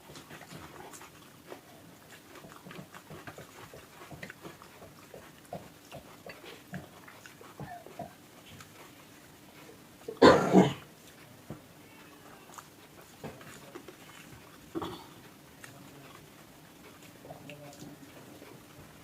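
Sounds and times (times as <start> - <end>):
chewing and wet mouth smacks: 0.1 - 10.2, 12.5 - 19.0.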